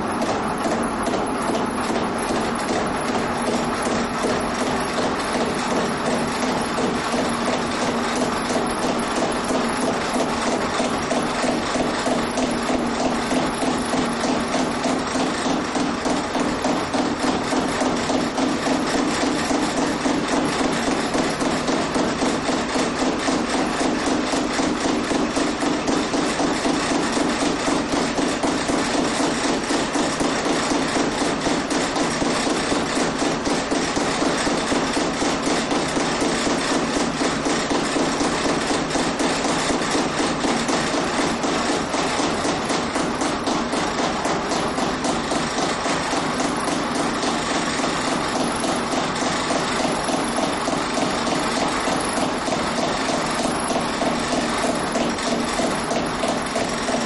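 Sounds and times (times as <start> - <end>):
rhythmic mechanical clatter: 0.0 - 57.0.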